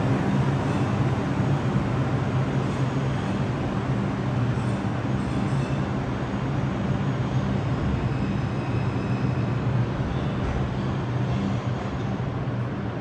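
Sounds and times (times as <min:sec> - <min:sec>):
subway train humming and rumbling: 0:00.0 - 0:13.0.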